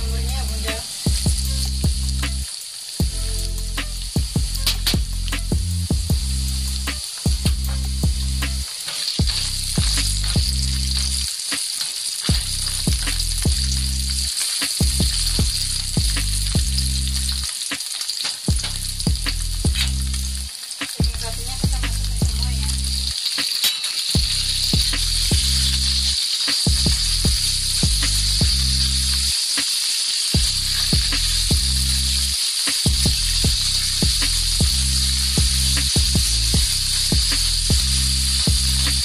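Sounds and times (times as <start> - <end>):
shallots sizzling in oil: 0.0 - 39.0.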